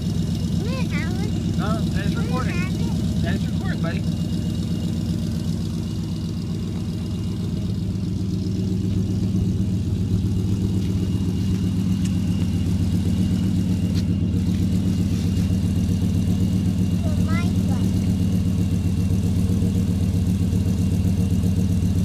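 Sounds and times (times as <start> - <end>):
engine idling at tailpipe: 0.0 - 22.0.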